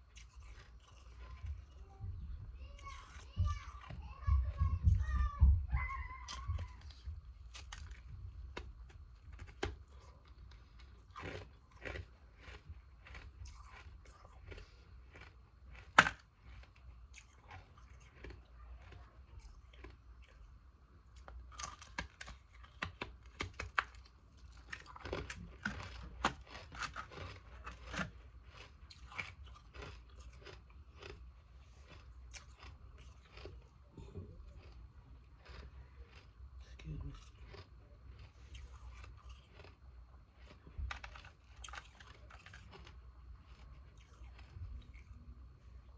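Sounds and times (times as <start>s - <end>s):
person chewing ice crunching: 0.0s - 2.0s, 6.2s - 45.2s.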